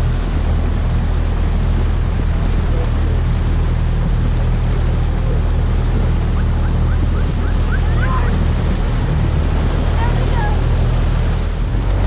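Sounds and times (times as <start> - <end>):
outboard motor running: 0.0 - 12.0
water rushing along hull: 0.0 - 12.0
wind on microphone: 0.0 - 12.0.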